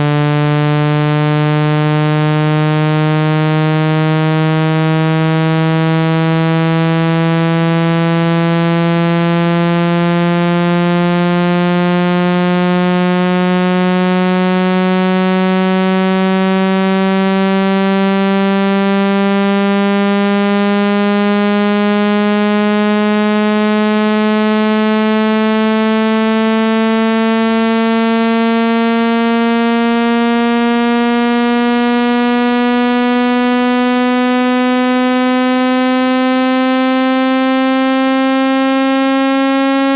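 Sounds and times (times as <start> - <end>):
buzzy electronic tone rising: 0.0 - 39.9.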